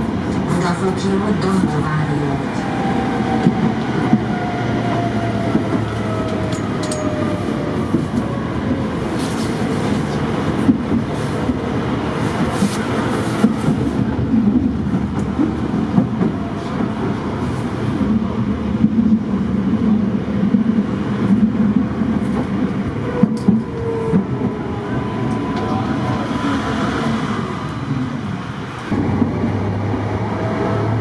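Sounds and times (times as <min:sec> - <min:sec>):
tram wheels rumbling on rails: 0:00.0 - 0:31.0.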